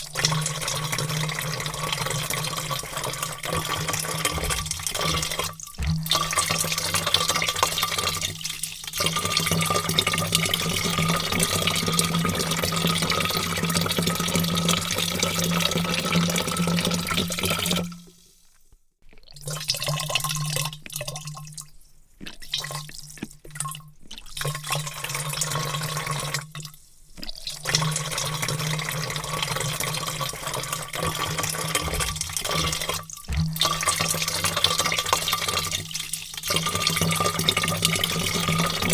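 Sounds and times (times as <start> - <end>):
water pouring into vat: 0.0 - 38.9.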